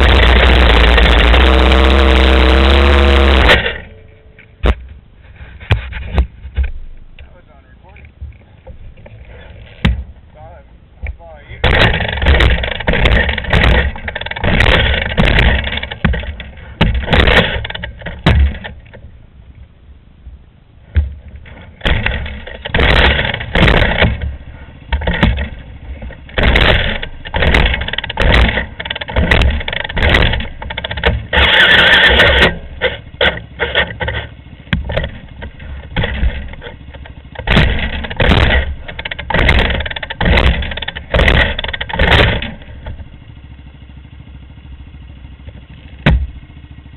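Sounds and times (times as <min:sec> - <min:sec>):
off-road vehicle engine surging: 0:00.0 - 0:46.9.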